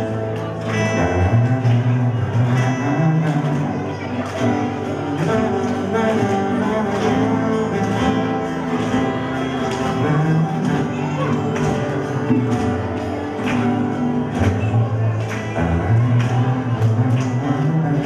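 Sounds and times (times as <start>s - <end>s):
guitars strumming chords: 0.0s - 18.0s.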